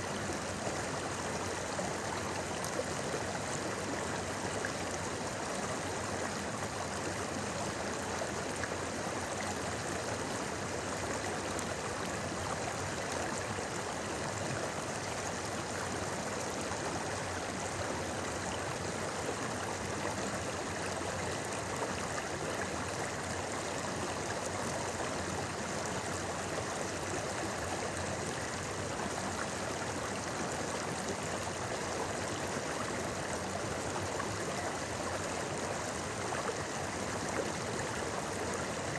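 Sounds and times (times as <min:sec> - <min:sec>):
river babbling: 0:00.0 - 0:38.9.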